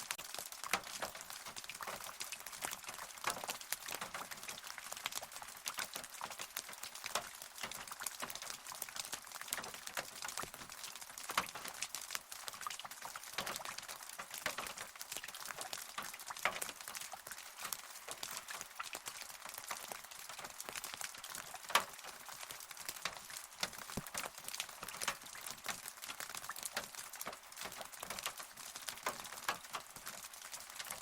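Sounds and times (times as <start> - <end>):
rain falling: 0.0 - 31.0
raindrops tapping on a surface: 0.0 - 31.0.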